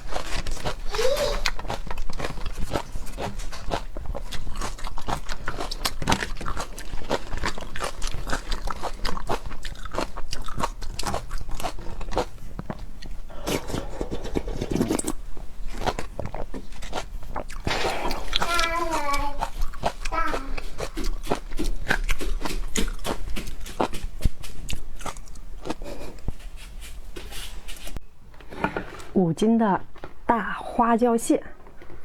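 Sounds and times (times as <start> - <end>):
person chewing crunchy food: 0.0 - 27.2.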